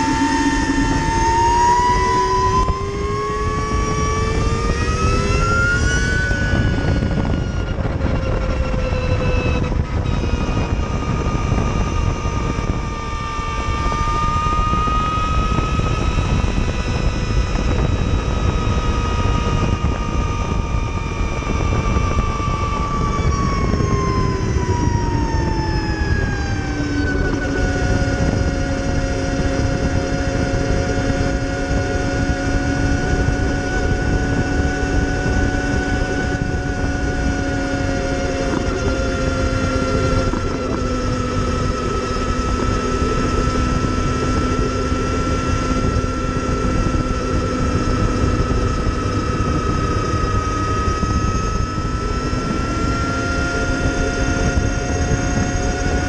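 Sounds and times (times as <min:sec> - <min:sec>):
electric motorcycle motor whine: 0:00.0 - 0:56.0
wind and road noise: 0:00.0 - 0:56.0.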